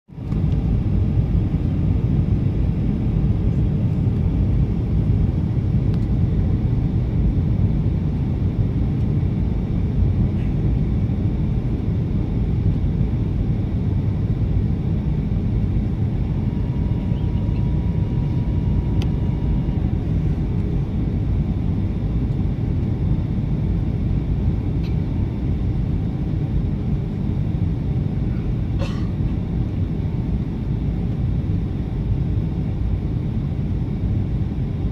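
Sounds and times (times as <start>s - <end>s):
airliner cabin engine rumble: 0.1s - 34.9s.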